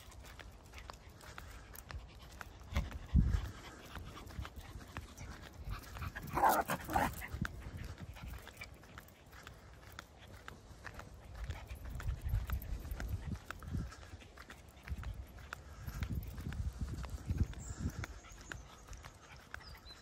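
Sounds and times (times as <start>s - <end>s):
dog panting: 0.0s - 16.8s, 17.6s - 20.0s
footsteps on tarmac: 0.0s - 20.0s.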